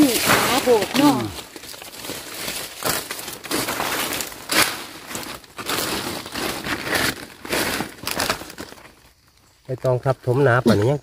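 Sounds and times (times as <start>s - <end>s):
footsteps crunching dry leaves: 0.0s - 9.4s.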